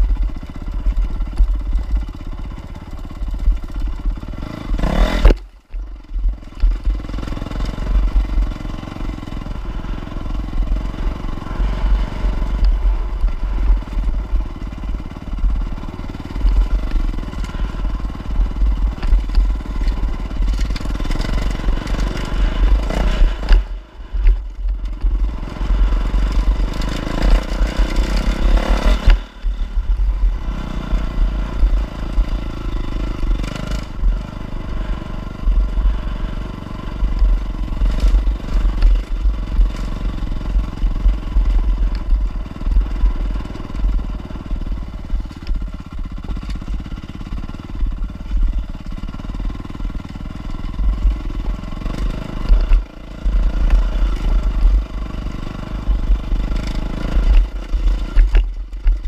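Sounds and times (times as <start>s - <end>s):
sharp knocks from rough ride: 0.0s - 9.2s, 11.6s - 34.2s, 36.9s - 59.0s
motorcycle engine revving: 0.0s - 59.0s.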